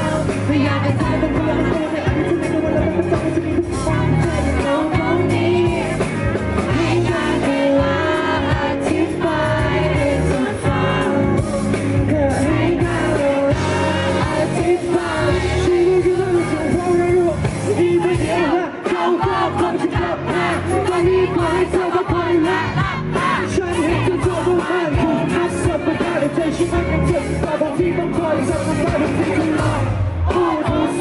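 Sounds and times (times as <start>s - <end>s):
band accompaniment: 0.0s - 31.0s
man singing into a microphone: 0.0s - 31.0s.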